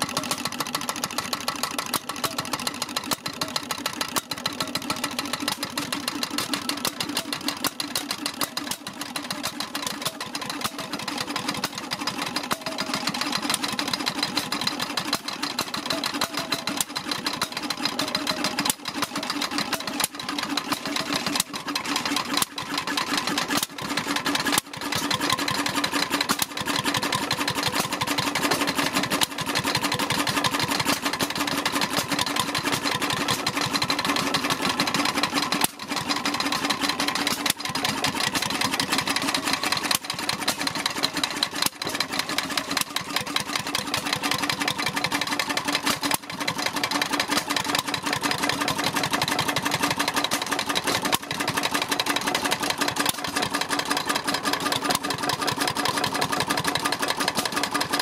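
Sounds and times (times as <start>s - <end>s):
portable engine running: 0.0s - 58.0s
rapid valve gear clatter: 0.0s - 58.0s.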